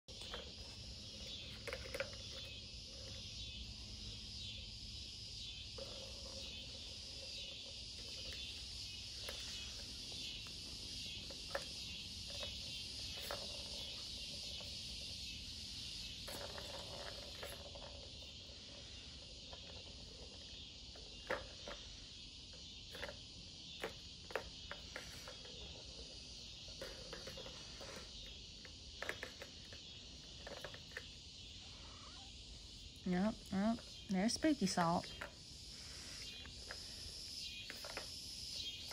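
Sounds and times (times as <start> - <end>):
high-pitched insect chorus: 0.1 - 38.9.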